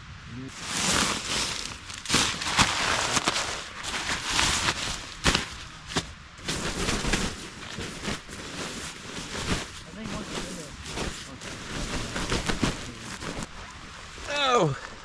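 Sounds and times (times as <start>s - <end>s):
crinkling fabric: 0.5s - 13.5s
sharp crackles: 0.5s - 13.5s.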